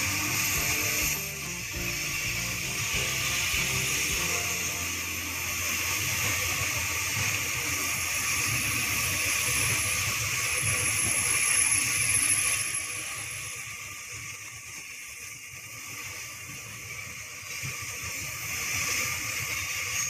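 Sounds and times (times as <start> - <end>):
low rumble of freight train: 0.0 - 20.0
steel train wheels rushing on rails: 0.0 - 20.0.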